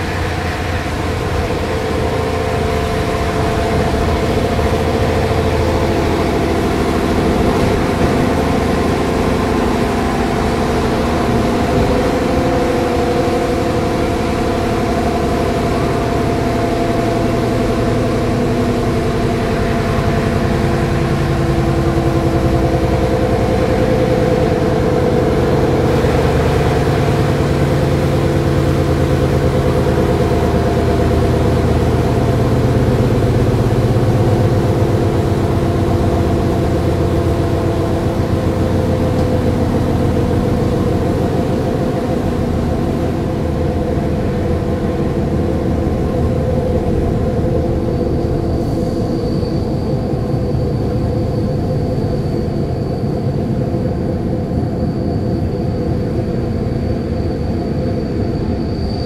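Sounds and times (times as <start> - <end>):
constant hum: 0.0 - 59.0
train wheels rumbling on rails: 0.0 - 59.0.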